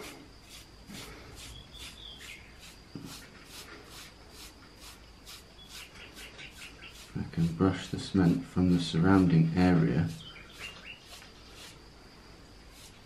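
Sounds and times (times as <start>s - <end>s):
paintbrush scrubbing cement: 0.0s - 11.8s, 12.7s - 13.0s.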